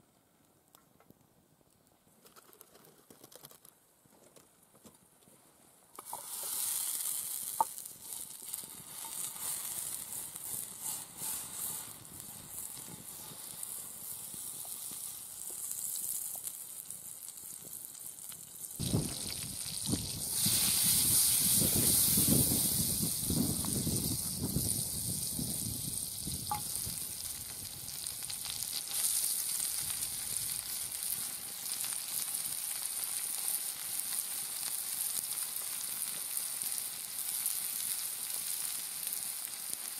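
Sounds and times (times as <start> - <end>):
butter sizzling in frying pan: 6.0 - 39.9
vegetables frying: 6.0 - 39.9.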